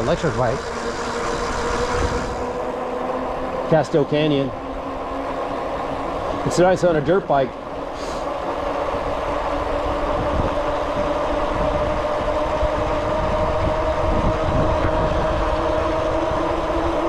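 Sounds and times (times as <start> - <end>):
vehicle droning hum: 0.0 - 17.0.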